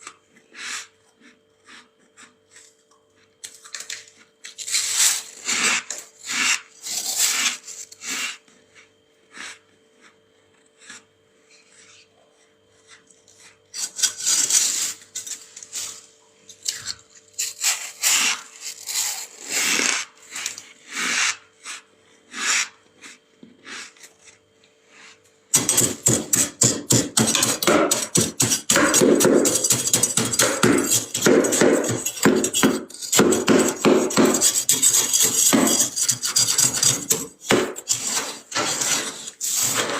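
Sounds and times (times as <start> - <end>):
frost scraping inside freezer: 3.5 - 8.5, 12.8 - 39.9.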